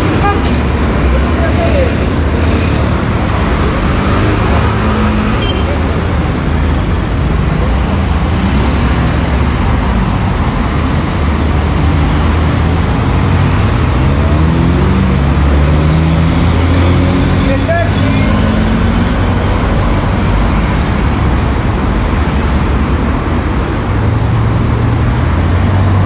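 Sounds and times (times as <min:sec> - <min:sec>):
street traffic din: 0:00.0 - 0:26.0.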